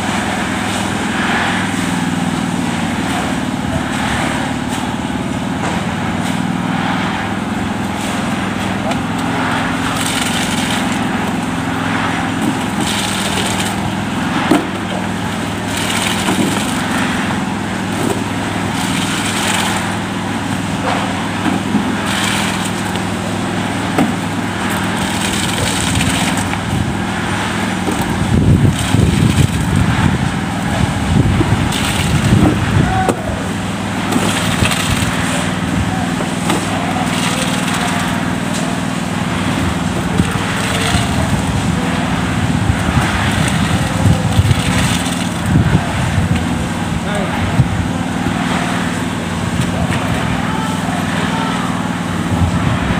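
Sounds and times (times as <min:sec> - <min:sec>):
concrete mixer engine running: 0:00.0 - 0:52.9.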